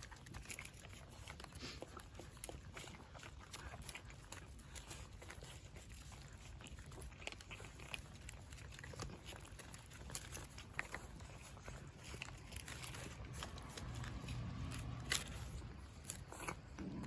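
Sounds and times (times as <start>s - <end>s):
cats chewing food: 0.0s - 17.0s.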